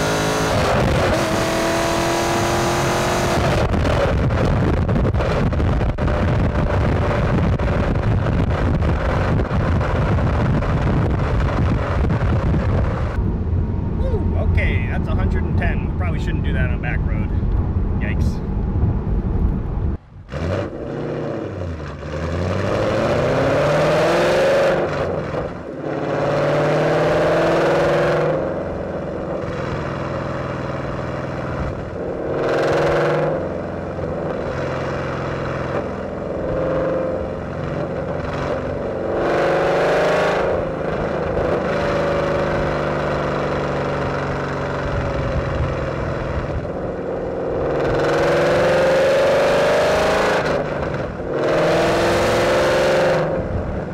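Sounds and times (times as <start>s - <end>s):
car engine accelerating hard: 0.0s - 53.9s.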